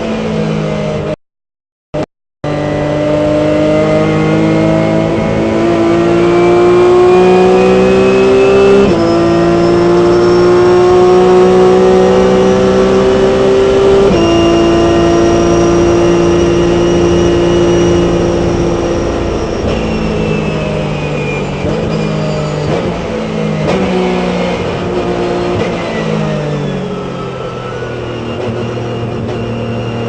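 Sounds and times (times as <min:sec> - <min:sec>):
race car engine at high revs: 0:00.0 - 0:01.2, 0:02.4 - 0:30.0.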